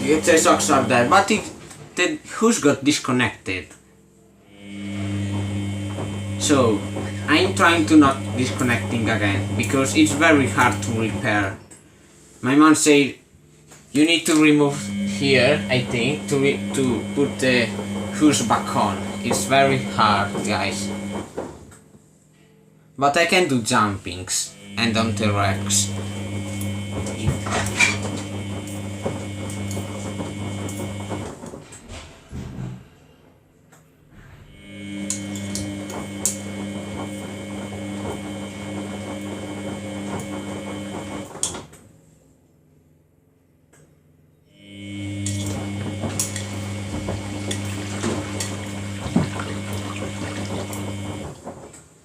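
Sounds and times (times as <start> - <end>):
washing machine motor hum: 0.0 - 3.3, 4.4 - 12.9, 14.0 - 21.9, 23.5 - 32.7, 34.4 - 41.8, 44.5 - 52.0.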